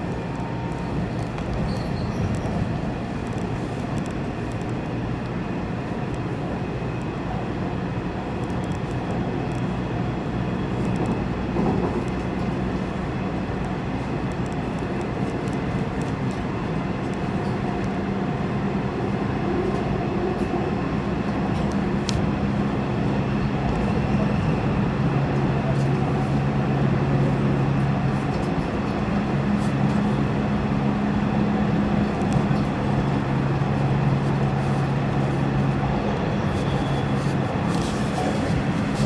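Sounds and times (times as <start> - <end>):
electric train rumbling: 0.0 - 39.0.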